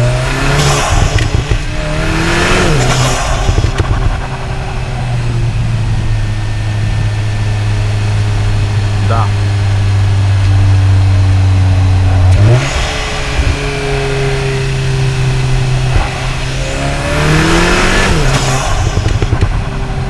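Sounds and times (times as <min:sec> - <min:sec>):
car engine accelerating: 0:00.0 - 0:20.0
turbo and intake whoosh: 0:00.0 - 0:20.0.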